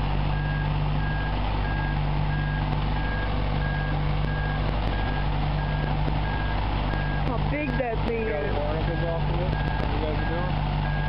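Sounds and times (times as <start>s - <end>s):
lift engine running: 0.0s - 11.0s
warning alarm beeping: 0.4s - 11.0s.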